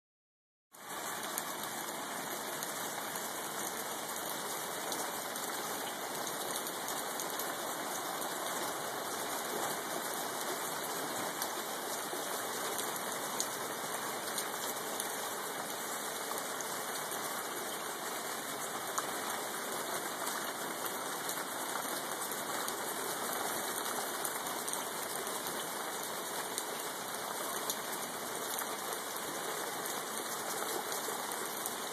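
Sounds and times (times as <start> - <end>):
steady rain hiss: 0.8 - 31.9.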